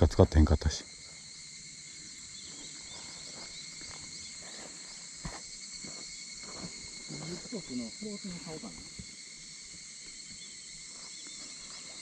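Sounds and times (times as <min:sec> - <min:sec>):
insects singing: 0:00.0 - 0:12.0.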